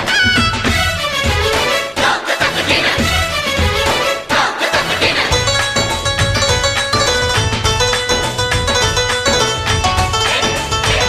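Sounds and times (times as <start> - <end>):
instrumental folk-style music: 0.0 - 11.0.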